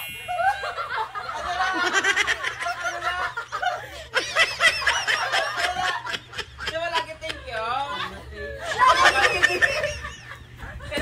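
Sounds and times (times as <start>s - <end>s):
people snickering and laughing: 0.0s - 11.0s.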